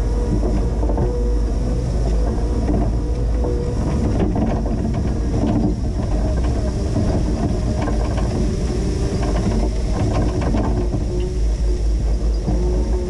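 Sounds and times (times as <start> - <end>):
forklift engine running: 0.0 - 13.0
knocks and rattles: 2.0 - 13.0.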